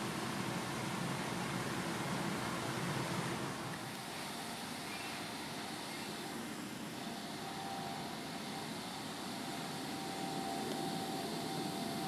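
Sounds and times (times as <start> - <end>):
faint thin whine: 0.0 - 12.0
fire engine pumps droning: 0.0 - 12.0.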